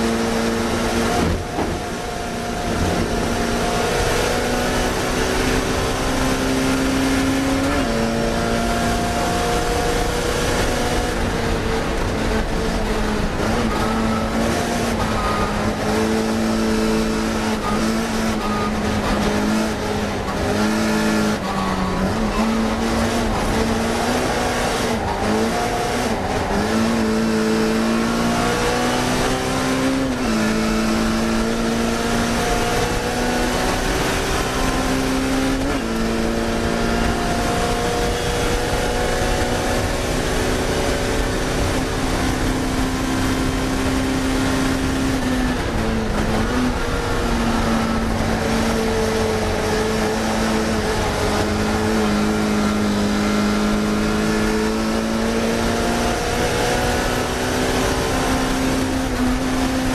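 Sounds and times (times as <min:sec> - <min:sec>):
racing car engine at high revs: 0:00.0 - 0:59.9.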